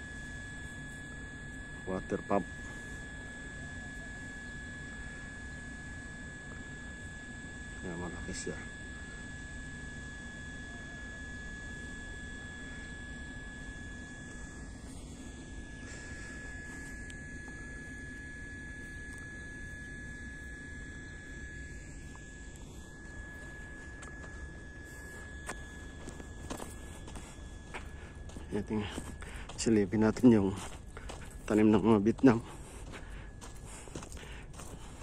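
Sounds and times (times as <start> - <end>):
high-pitched whine: 0.0 - 35.0
low hum: 0.0 - 35.0.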